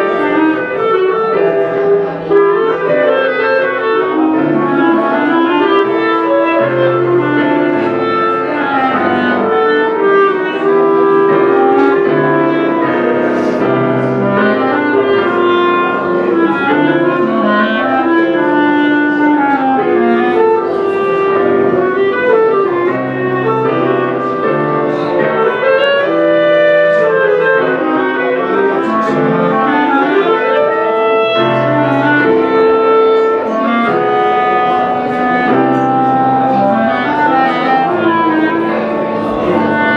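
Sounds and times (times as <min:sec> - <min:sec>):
clarinets playing melody: 0:00.0 - 0:39.9
piano accompaniment: 0:00.0 - 0:39.9.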